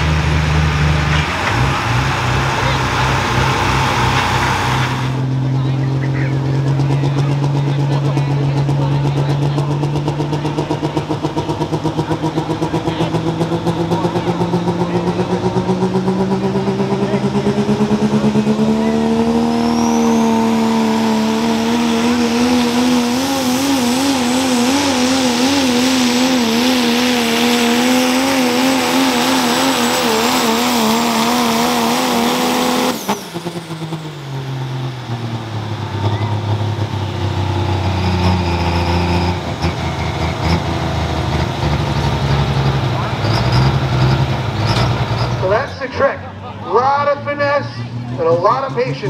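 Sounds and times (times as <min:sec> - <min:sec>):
diesel engine at full throttle: 0:00.0 - 0:49.0.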